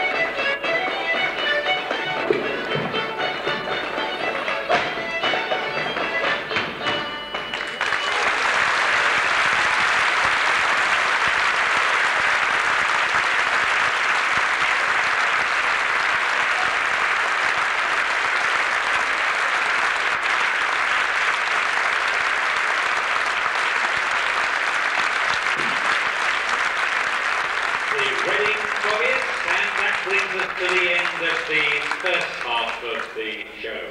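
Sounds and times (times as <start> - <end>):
audience applauding: 0.0 - 6.4, 7.3 - 33.4.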